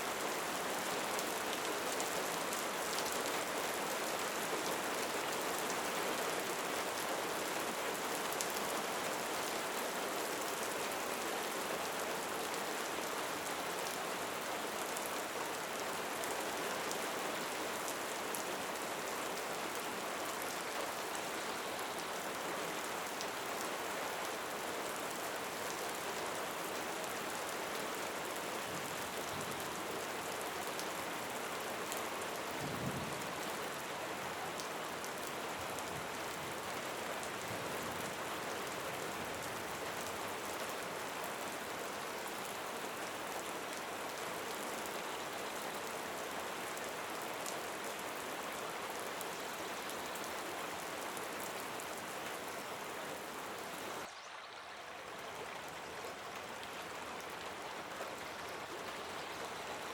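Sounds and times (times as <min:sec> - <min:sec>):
rain hiss and patter: 0:00.0 - 0:59.9.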